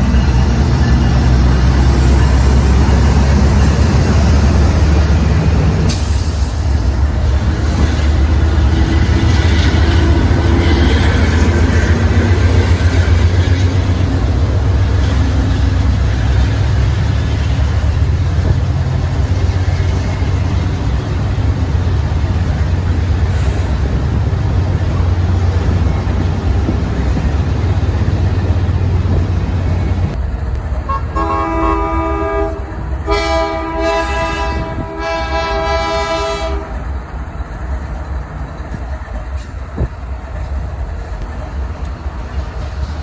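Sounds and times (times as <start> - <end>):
diesel locomotive engine rumbling: 0.0 - 43.0.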